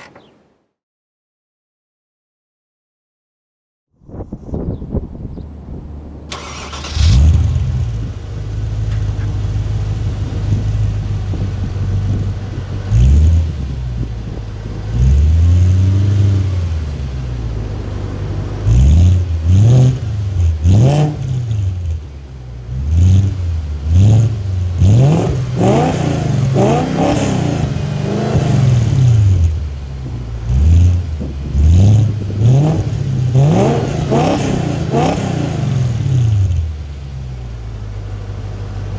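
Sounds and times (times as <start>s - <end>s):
car engine idling and revving: 0.0s - 0.4s, 4.5s - 38.9s.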